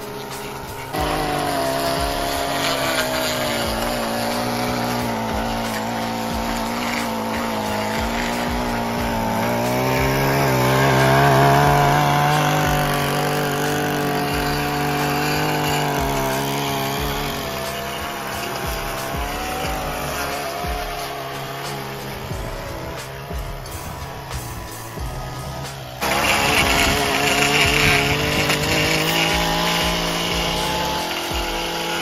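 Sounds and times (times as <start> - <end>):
gas edger running at high revs: 0.0 - 32.0.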